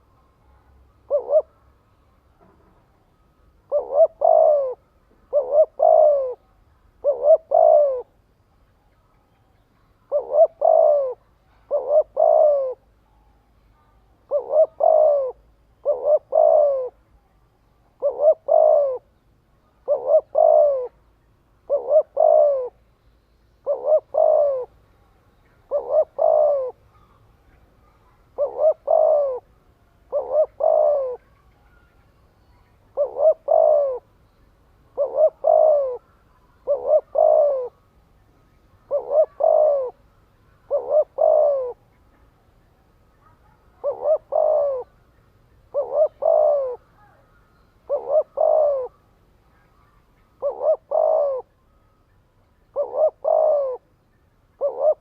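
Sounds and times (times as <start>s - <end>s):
dove cooing: 0.0s - 8.2s, 9.2s - 22.9s, 23.6s - 55.0s.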